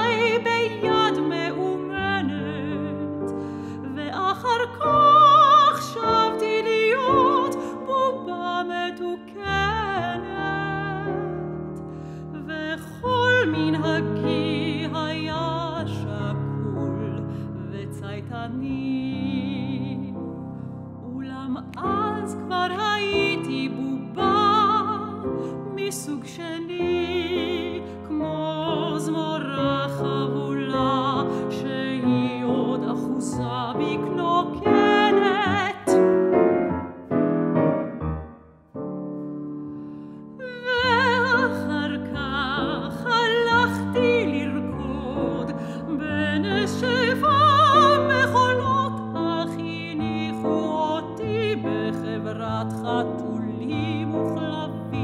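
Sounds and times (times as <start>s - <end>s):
soprano singing with vibrato: 0.0s - 11.5s, 12.4s - 20.2s, 21.0s - 36.1s, 40.4s - 55.0s
piano accompaniment: 0.0s - 55.0s.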